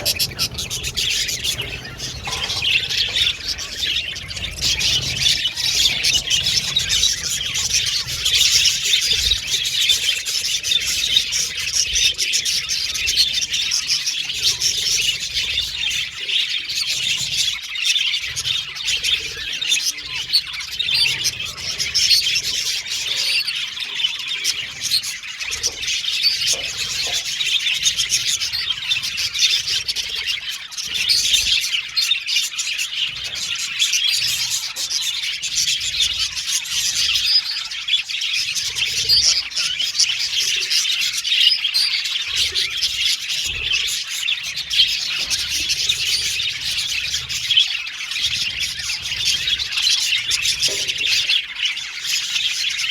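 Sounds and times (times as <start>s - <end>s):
budgies chattering and warbling: 0.0s - 52.9s.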